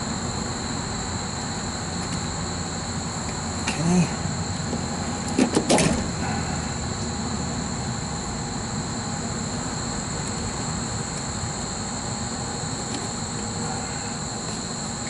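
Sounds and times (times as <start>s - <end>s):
crickets chirring: 0.0s - 15.0s
steady low rumble: 0.0s - 15.0s.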